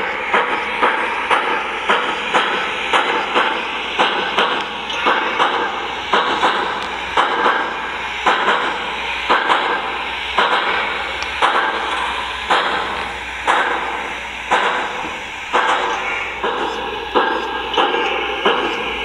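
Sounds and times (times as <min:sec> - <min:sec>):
model steam locomotive chuffs: 0:00.0 - 0:19.0
steady steam hiss: 0:00.0 - 0:19.0.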